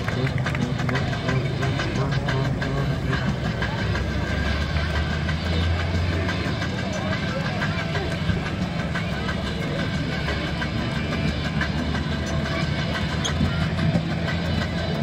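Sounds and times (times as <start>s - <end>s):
engine idling low rumble: 0.0s - 15.0s
murmur of crowd voices: 0.0s - 15.0s.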